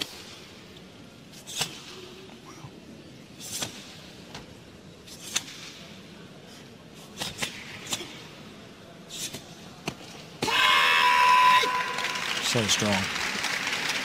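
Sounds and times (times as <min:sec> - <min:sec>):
faint hall hum: 0:00.0 - 0:14.0.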